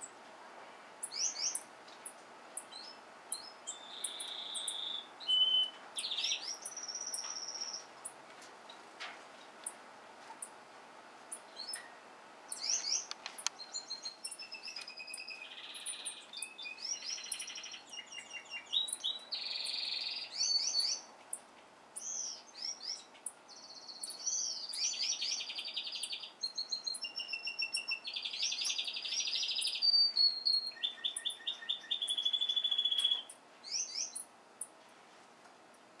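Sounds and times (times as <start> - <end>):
songbirds singing: 0.0 - 0.3, 0.9 - 36.0.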